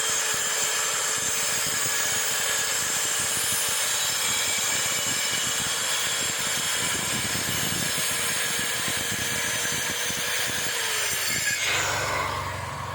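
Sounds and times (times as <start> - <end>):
power tool motor whining: 0.0 - 12.9.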